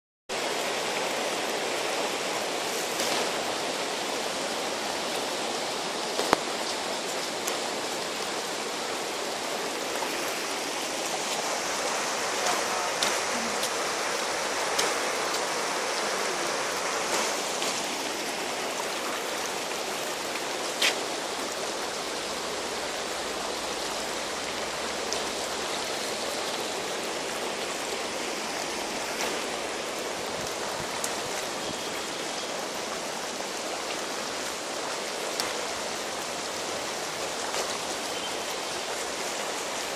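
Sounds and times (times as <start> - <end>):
river rushing: 0.3 - 39.9.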